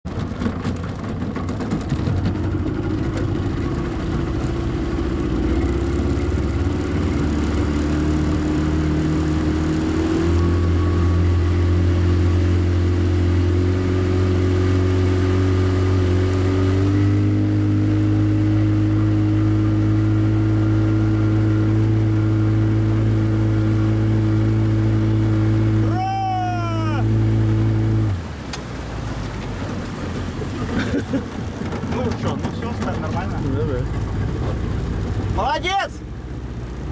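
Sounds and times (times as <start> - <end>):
outboard motor running: 0.0 - 36.9.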